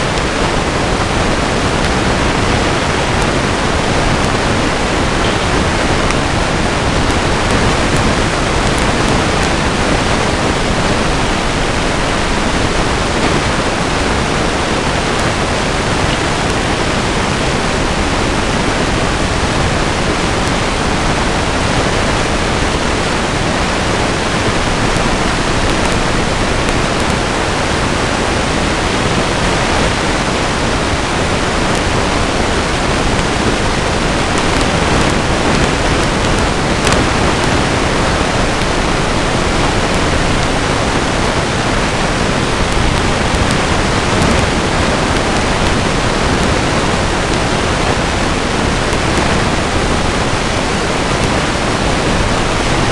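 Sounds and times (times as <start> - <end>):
electronic hiss: 0.0 - 52.9.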